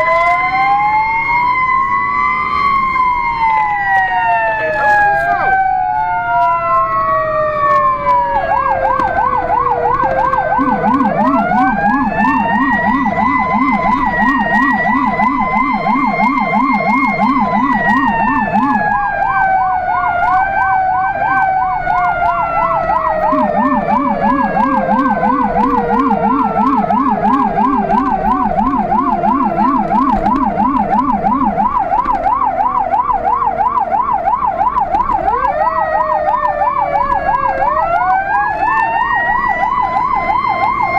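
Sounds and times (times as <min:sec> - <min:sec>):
deep low-pitched siren warble: 0:00.0 - 0:40.9
fast yelp siren: 0:00.0 - 0:40.9
wailing siren: 0:00.0 - 0:40.9.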